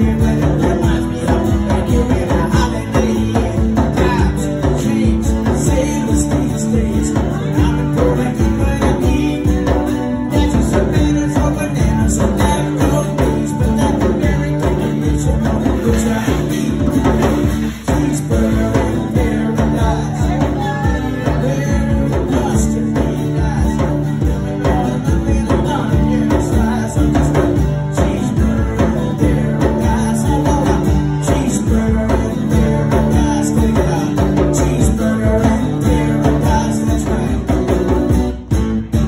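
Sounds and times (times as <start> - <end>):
djembe hand drum beat: 0.0 - 39.0
strummed acoustic guitar: 0.0 - 39.0.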